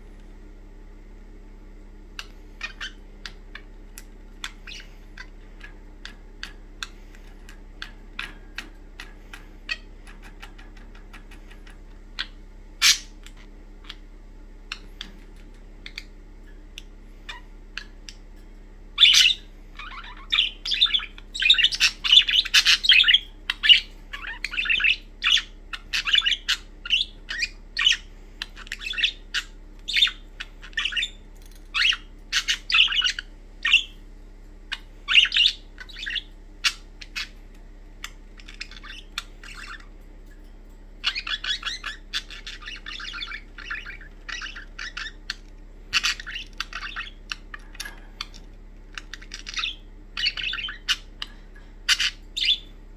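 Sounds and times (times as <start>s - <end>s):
budgerigars chirping and squawking: 2.2s - 14.1s, 14.7s - 34.1s, 34.7s - 52.9s.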